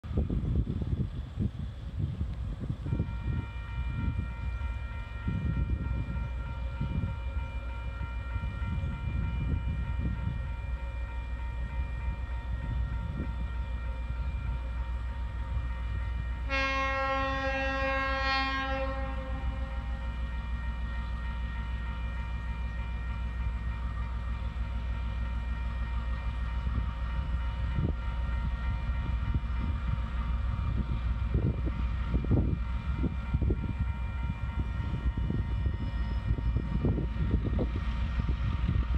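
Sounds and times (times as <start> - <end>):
gusty wind rumble: 0.0 - 38.9
locomotive horn blast: 2.8 - 29.8, 31.3 - 38.2.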